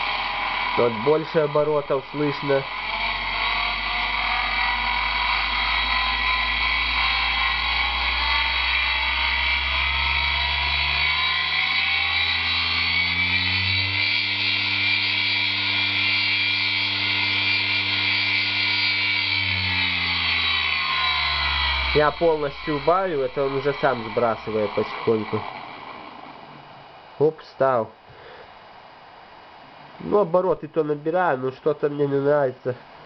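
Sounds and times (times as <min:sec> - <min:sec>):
electric motor hum rising in pitch: 0:00.0 - 0:27.0
high-pitched electrical whine: 0:00.0 - 0:28.0.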